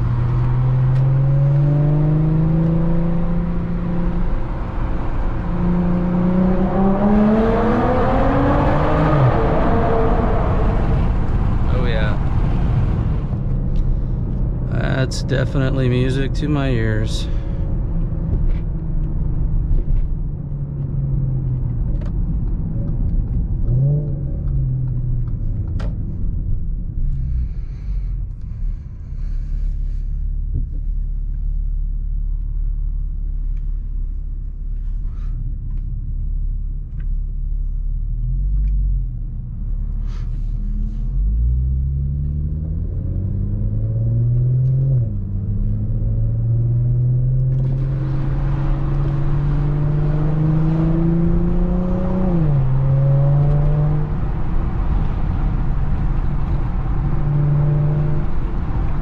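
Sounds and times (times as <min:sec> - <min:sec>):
car exhaust rumble from cabin: 0:00.0 - 0:59.0.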